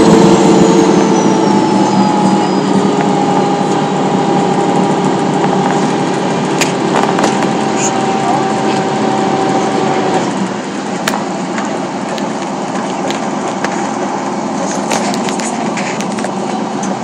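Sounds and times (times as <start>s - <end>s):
bus engine and tyre noise: 0.0s - 17.0s
rattles and clicks from bus body: 1.1s - 17.0s.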